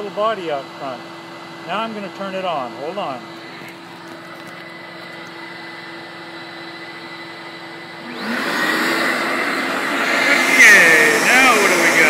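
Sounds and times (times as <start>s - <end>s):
vacuum booster whine: 0.0s - 12.0s
vacuum motors droning: 0.0s - 12.0s.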